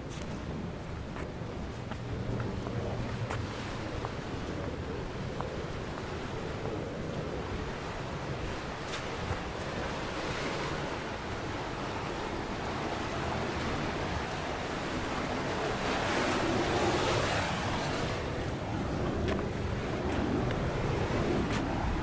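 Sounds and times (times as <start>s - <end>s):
sea waves washing onto shore: 0.0s - 22.0s
wind rumbling on microphone: 0.0s - 22.0s.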